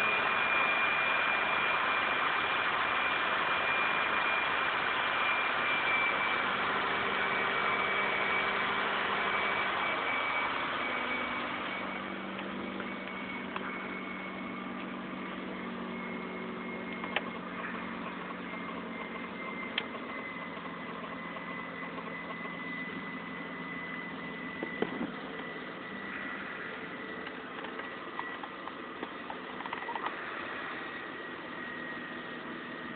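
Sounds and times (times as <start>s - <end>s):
car engine idling: 0.0s - 32.9s
thin high whine: 0.0s - 32.9s.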